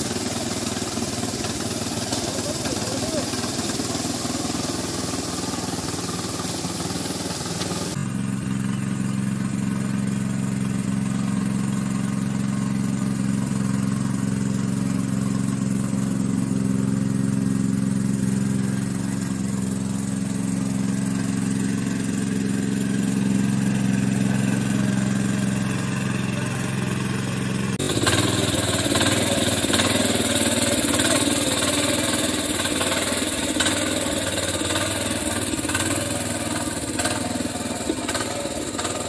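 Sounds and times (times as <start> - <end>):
power tiller engine running: 0.0 - 39.0.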